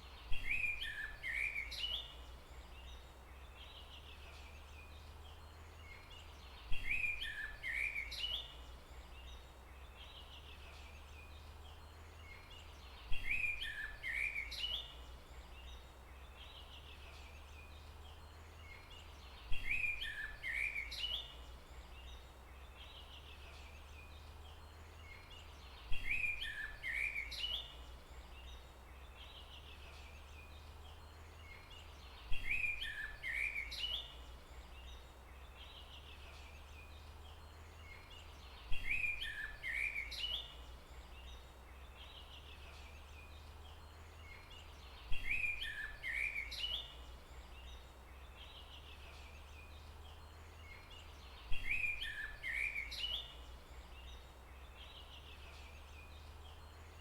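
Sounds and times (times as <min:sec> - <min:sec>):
bird chirping: 0:00.0 - 0:57.0
faint background hiss: 0:00.0 - 0:57.0.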